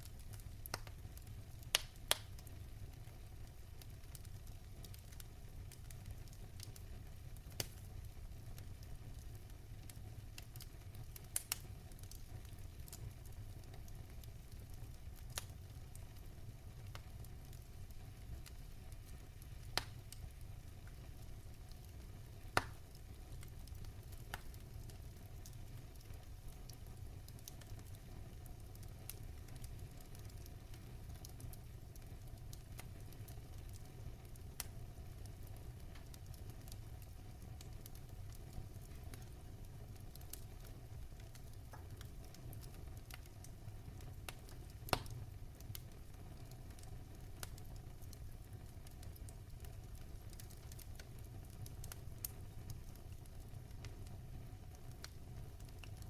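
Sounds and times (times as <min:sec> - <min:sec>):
fire popping and snapping: 0:00.0 - 0:56.0
wood fire crackling: 0:00.0 - 0:56.0.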